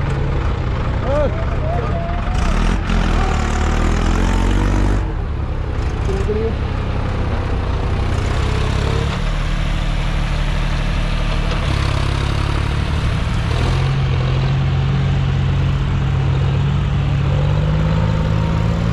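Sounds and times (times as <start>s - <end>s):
tractor diesel engine working hard: 0.0s - 18.9s.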